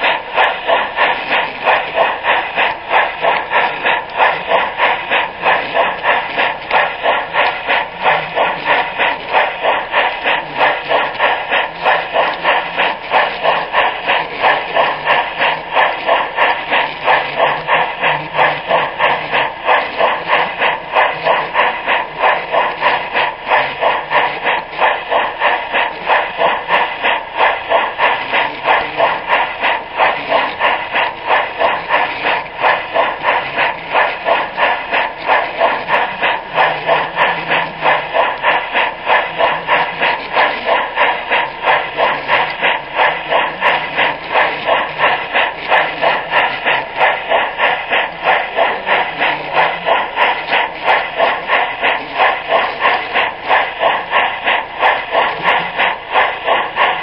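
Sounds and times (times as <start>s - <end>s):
model train running on track: 0.0s - 57.0s.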